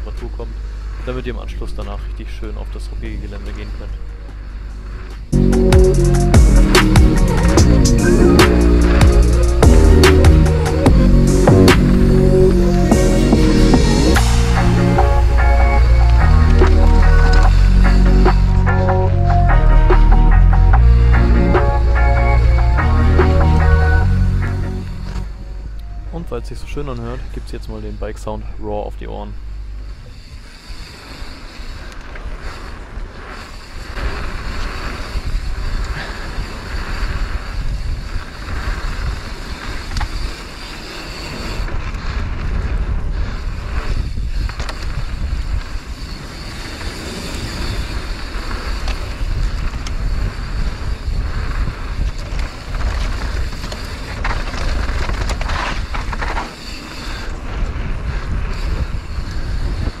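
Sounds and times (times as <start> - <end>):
bike tyres rolling on dirt: 0.0 - 5.5, 6.3 - 60.0
bike rattling over bumps: 0.0 - 25.7, 26.8 - 60.0
wind buffeting microphone: 0.0 - 60.0.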